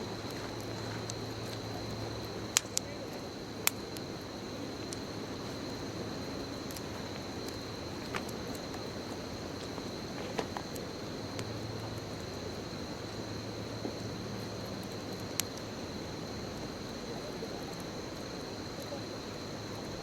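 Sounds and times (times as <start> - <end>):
bonfire hissing: 0.0 - 20.0
fire crackling pops: 0.0 - 20.0
high insect trill: 0.0 - 20.0.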